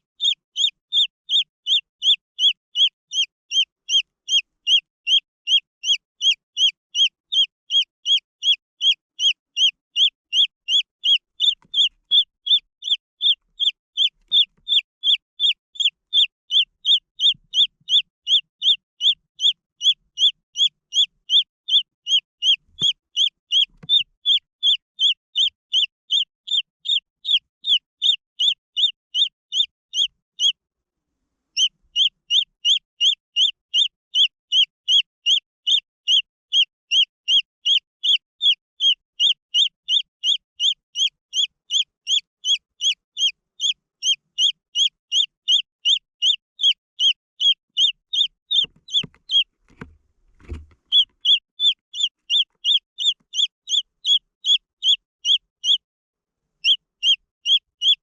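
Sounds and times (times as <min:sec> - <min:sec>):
chick peeping: 0:00.0 - 0:30.6, 0:31.6 - 0:55.8, 0:56.6 - 0:58.0.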